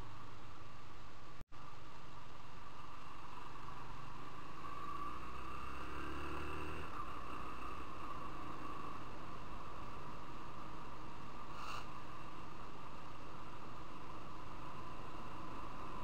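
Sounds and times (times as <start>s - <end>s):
motorcycle engine riding: 2.7s - 16.0s.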